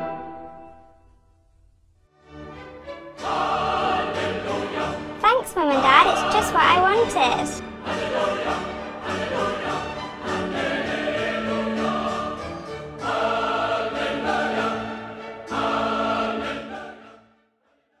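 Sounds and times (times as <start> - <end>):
choir singing with orchestra: 0.0 - 0.7, 2.7 - 17.4.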